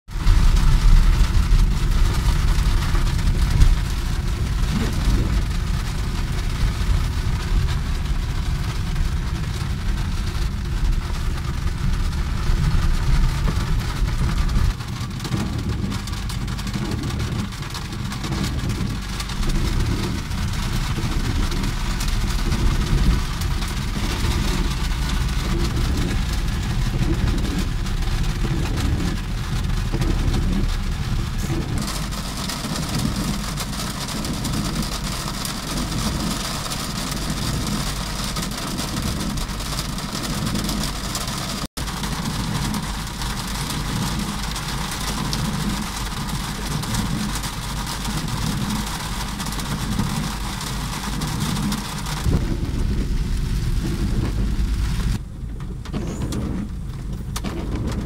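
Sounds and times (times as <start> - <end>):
car engine rumble: 0.0 - 58.0
heavy rain on car roof: 0.0 - 58.0
tyres on wet road: 0.1 - 58.0.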